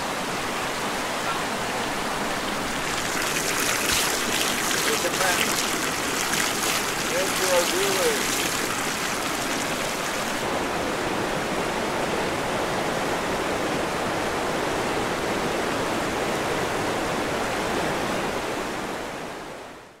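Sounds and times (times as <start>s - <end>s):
whitewater rushing over rocks: 0.0s - 18.5s.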